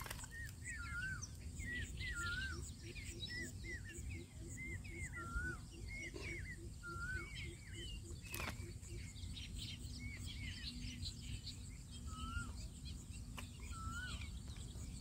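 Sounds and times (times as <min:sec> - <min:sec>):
birds whistling: 0:00.0 - 0:15.0.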